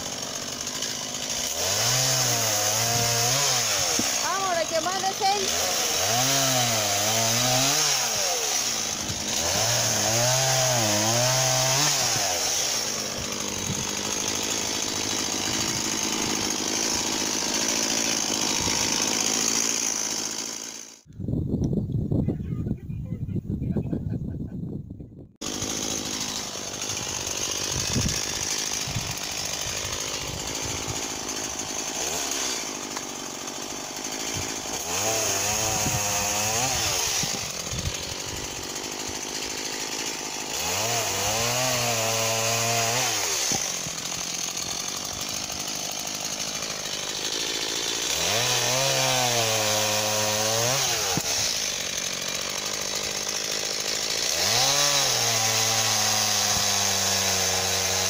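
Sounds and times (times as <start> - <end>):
chainsaw engine revving: 0.0 - 21.1, 25.4 - 58.0.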